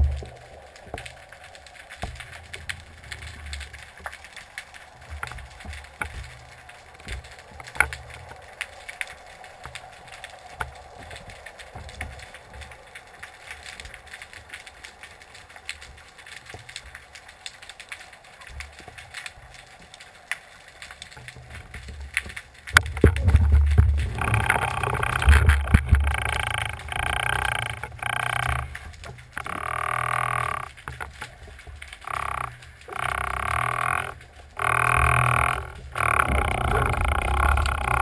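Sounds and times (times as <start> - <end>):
low water rumbles: 0.0 - 38.0
underwater clicks and crackles: 0.0 - 38.0.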